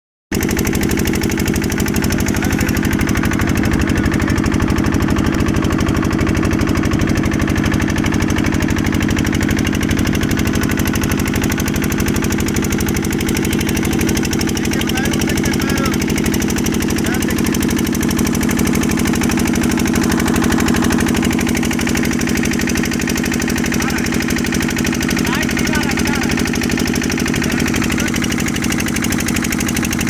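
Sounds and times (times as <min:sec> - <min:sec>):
motorboat engine chugging: 0:00.3 - 0:30.0.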